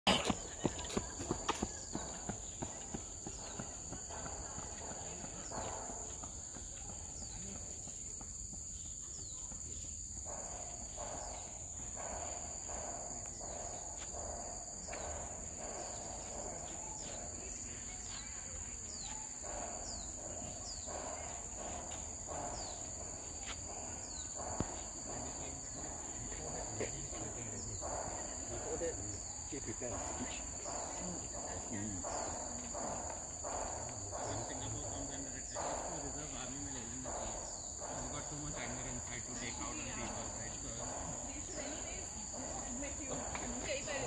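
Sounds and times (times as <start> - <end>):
high-pitched insect chorus: 0.1 - 44.0.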